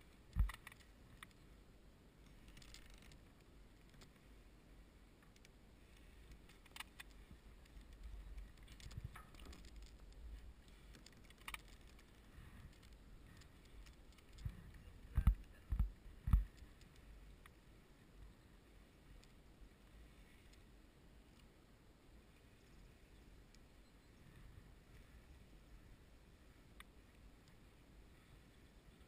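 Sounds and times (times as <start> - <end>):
faint low rumble: 0.0 - 29.0.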